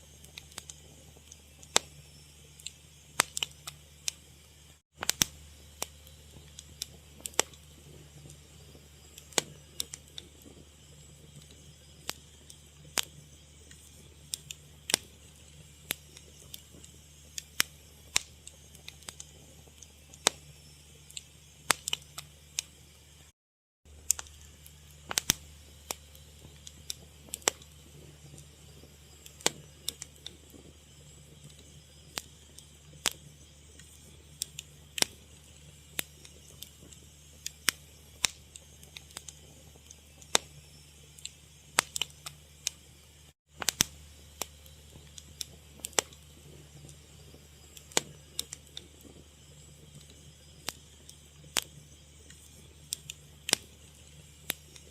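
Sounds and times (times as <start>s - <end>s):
fire crackling: 0.0s - 23.3s, 23.9s - 54.9s
steady low hum: 0.0s - 23.3s, 23.9s - 54.9s.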